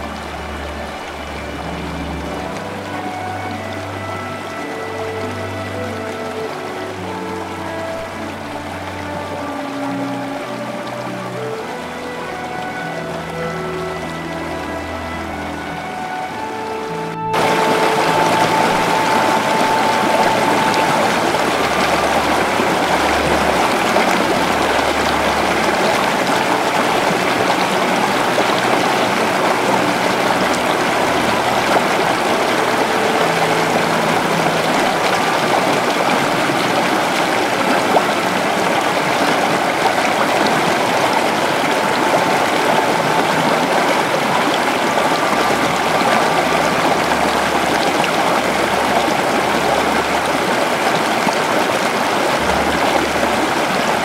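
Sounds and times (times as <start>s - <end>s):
rushing water: 0.0s - 54.0s
soft ambient music: 0.0s - 54.0s.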